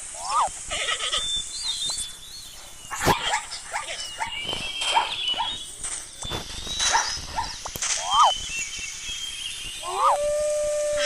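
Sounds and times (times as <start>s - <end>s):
thin high whistling tone: 0.2s - 11.0s.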